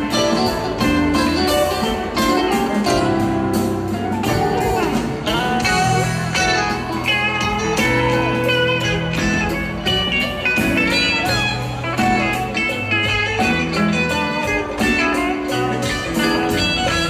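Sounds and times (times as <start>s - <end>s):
bass notes: 0.0s - 17.0s
drums: 0.0s - 17.0s
electric guitar lead: 0.0s - 17.0s.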